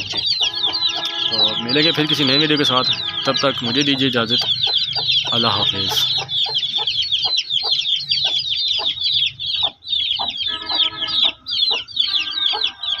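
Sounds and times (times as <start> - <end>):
chicks cheeping: 0.0 - 13.0
drawn-out hen call: 0.0 - 13.0
hen clucking: 0.0 - 13.0.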